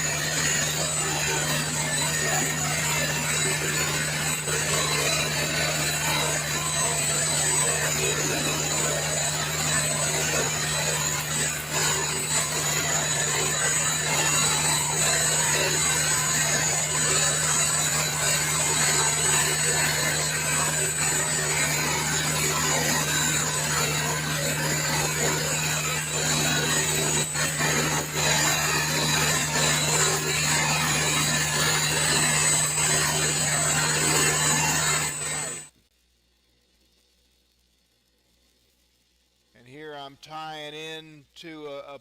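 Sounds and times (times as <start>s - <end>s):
welding arc crackling: 0.0s - 41.9s.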